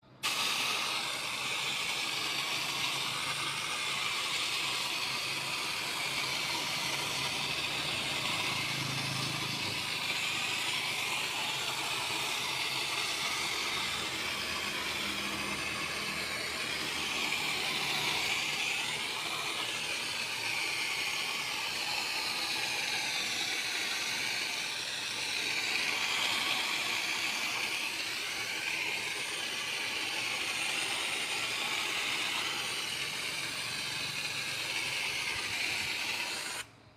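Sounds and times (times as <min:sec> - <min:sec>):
high-pressure water spray hissing: 0:00.2 - 0:36.8.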